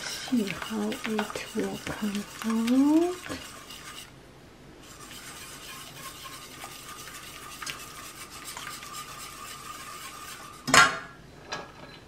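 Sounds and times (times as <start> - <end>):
whisk clinking on pan: 0.0 - 4.1, 5.0 - 10.6
whisk scraping in saucepan: 0.0 - 4.1, 4.8 - 10.7.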